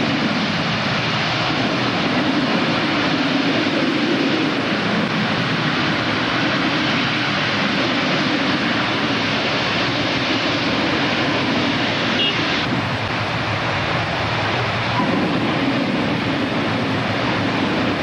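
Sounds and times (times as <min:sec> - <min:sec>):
volcano attraction rushing roar: 0:00.0 - 0:18.0.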